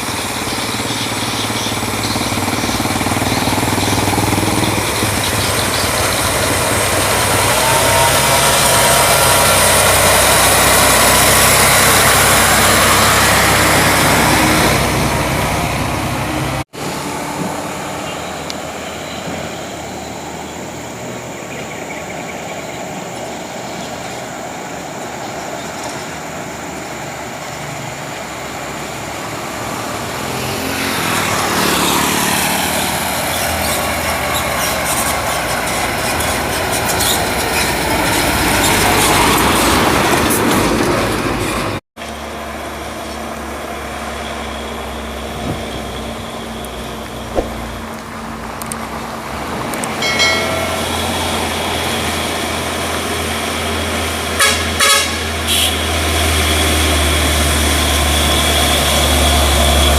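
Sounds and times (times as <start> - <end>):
truck diesel engine working: 0.0 - 21.7, 22.8 - 59.9.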